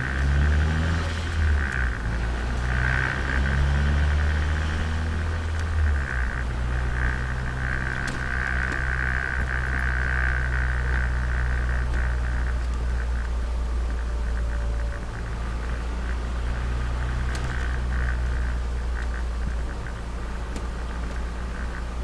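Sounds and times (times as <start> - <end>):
car engine droning: 0.0 - 22.0
road noise and hiss: 0.0 - 22.0
small ticks and rattles: 0.0 - 22.0.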